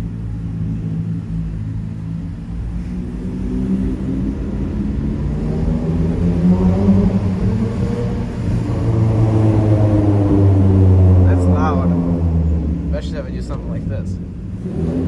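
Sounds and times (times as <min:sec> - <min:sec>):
car engine and exhaust droning: 0:00.0 - 0:15.0.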